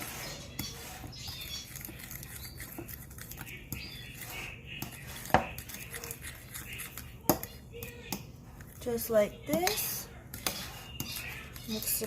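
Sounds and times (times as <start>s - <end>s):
utensil scraping butter in bowl: 0.0s - 12.0s.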